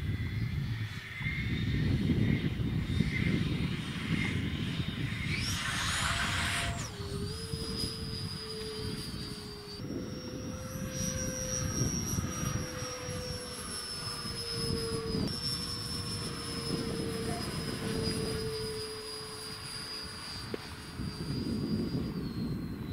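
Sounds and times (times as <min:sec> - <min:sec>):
low rumbling noise: 0:00.0 - 0:22.9
model jet fan whining: 0:00.0 - 0:22.9.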